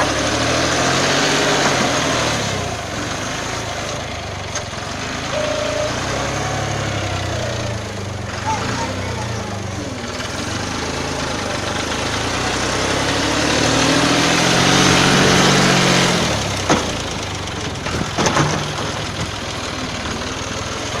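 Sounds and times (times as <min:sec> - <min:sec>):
motor vehicle engine running: 0:00.0 - 0:21.0.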